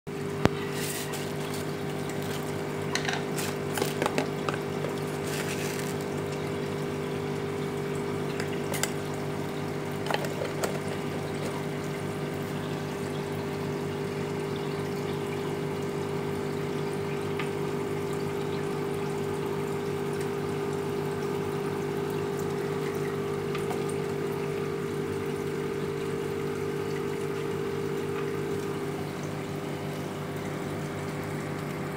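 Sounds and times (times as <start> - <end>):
aquarium pump humming: 0.1 - 31.9
water bubbling: 0.2 - 31.8.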